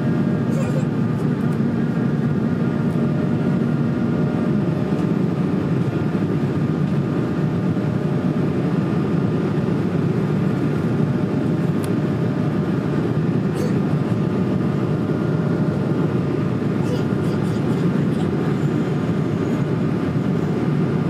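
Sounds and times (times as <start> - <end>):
jet engine cabin noise: 0.0 - 21.0.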